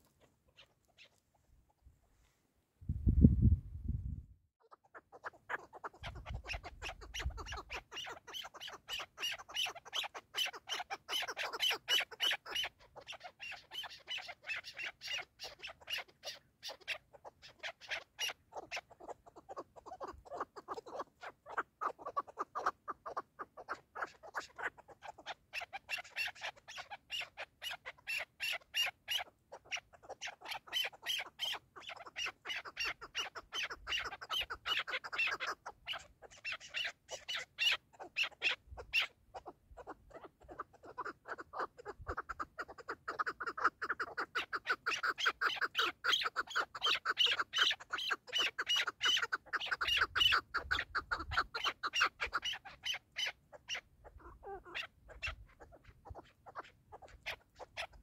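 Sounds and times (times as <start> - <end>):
partridge clucking calls: 0.0 - 1.5, 4.6 - 58.0.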